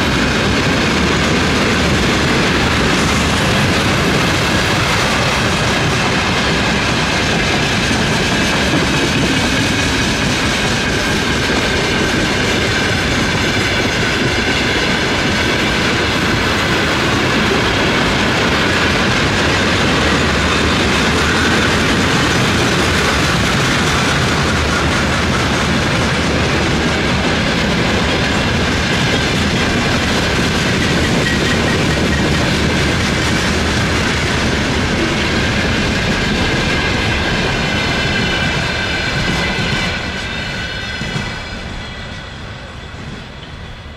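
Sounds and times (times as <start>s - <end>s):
freight train wagons rolling past: 0.0s - 43.9s.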